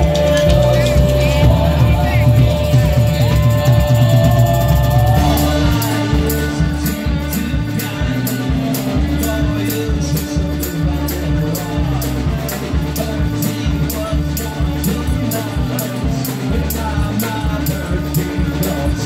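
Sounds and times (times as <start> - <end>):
crisp high percussion strokes: 0.0 - 18.9
live band playing amplified music: 0.0 - 19.0.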